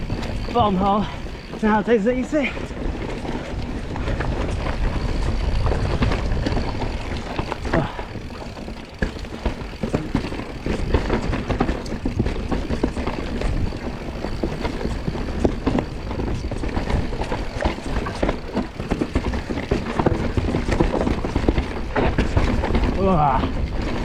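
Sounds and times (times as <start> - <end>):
bike knocks and rattles: 0.0 - 24.0
tyres crunching over dirt and rocks: 0.0 - 24.0.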